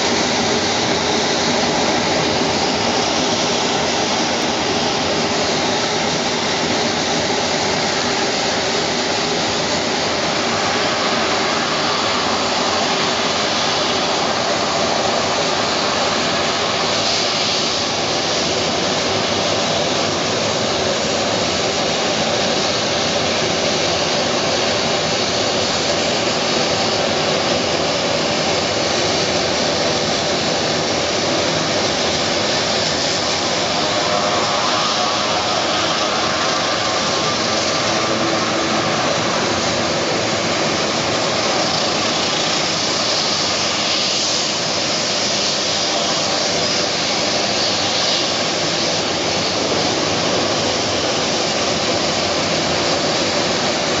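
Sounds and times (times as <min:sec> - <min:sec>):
turboprop engines whining: 0:00.0 - 0:54.0.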